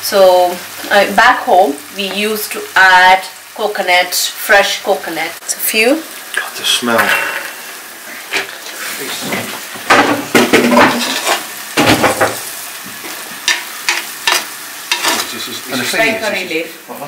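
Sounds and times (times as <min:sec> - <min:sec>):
paste sizzling: 0:00.0 - 0:17.0.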